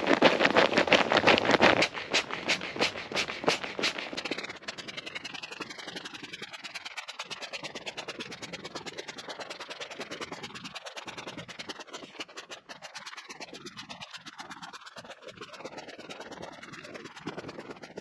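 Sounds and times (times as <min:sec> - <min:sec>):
rapid scratching: 0:00.0 - 0:18.0.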